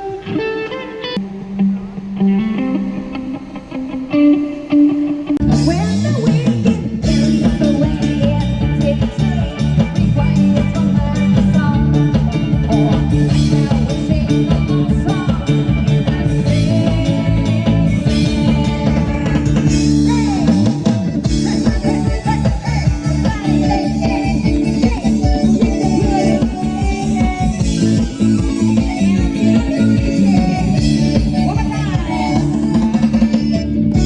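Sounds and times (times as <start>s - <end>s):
electric bass sliding: 0.0s - 34.0s
electric guitar chord ringing: 0.0s - 34.0s
drum kit: 5.4s - 34.0s.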